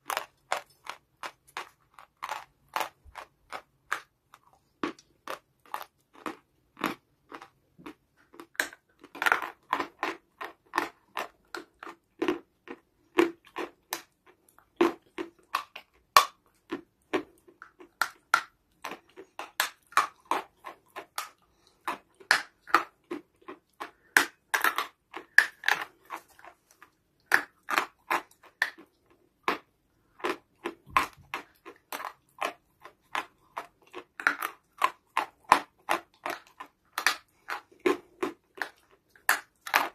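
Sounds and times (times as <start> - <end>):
person chewing crunchy clay: 0.0 - 39.9.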